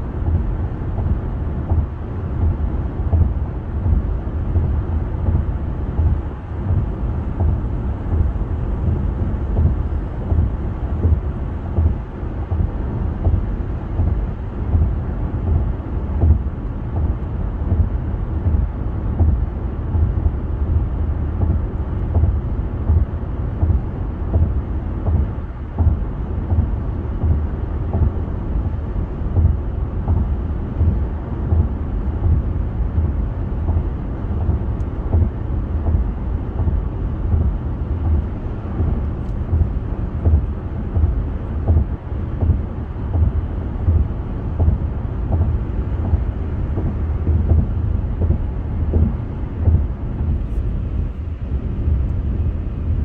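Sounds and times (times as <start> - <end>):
wind buffeting car: 0.0 - 53.0.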